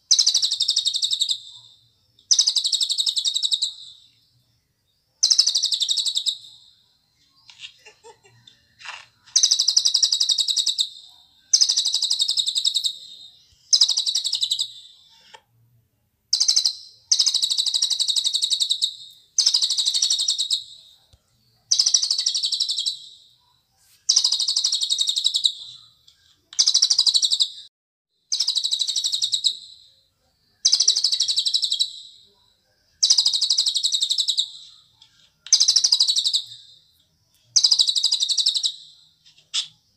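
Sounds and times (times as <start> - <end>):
bird chattering song: 0.0 - 4.2, 5.2 - 15.4, 16.3 - 23.4, 24.1 - 27.7, 28.3 - 30.0, 30.6 - 32.3, 32.9 - 39.9.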